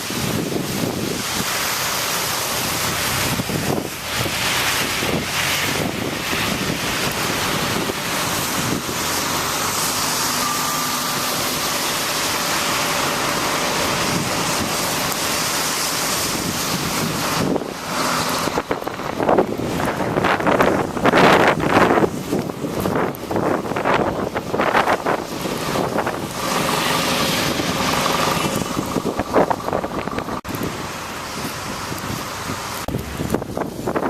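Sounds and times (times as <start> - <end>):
strong wind on microphone: 0.0 - 1.6, 2.6 - 34.0.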